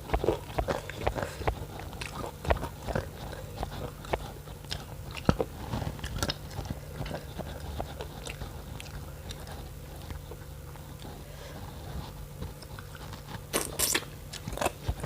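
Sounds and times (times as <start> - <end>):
person chewing and crunching: 0.0 - 15.0
steady low hum: 0.0 - 15.0.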